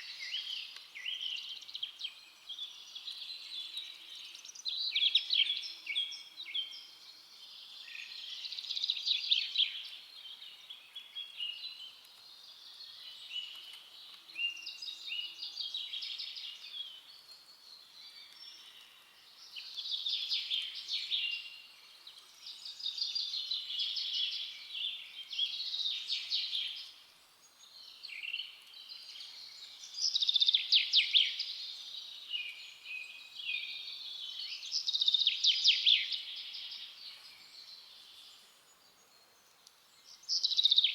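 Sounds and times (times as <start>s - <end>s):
songbirds singing with trills: 0.0s - 40.9s.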